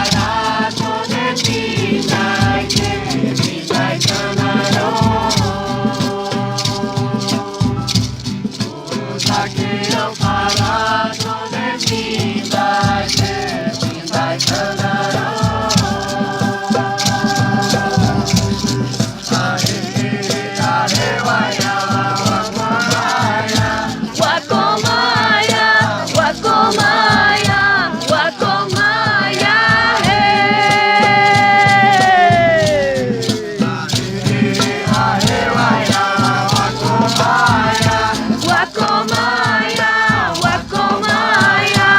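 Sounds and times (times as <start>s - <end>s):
shaker rattles: 0.0s - 41.9s
voices singing a chant: 0.0s - 41.9s.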